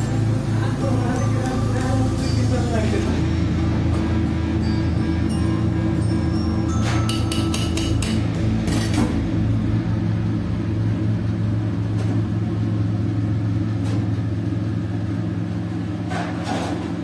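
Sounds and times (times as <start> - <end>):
kitchen equipment humming: 0.0 - 17.0.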